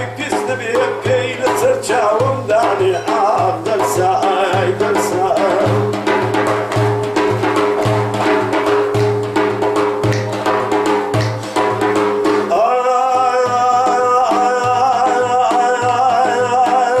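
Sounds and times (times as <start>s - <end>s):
frame drum beating: 0.0s - 17.0s.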